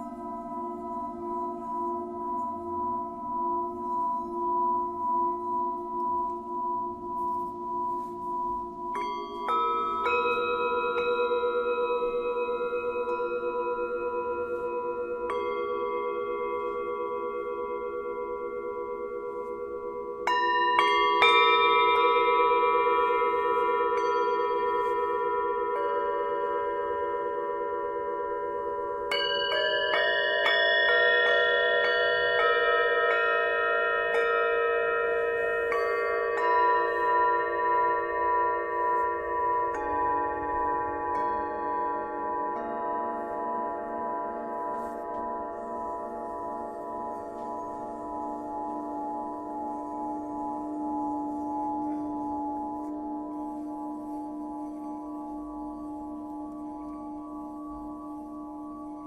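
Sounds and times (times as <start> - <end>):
singing bowls ringing: 0.0 - 59.0.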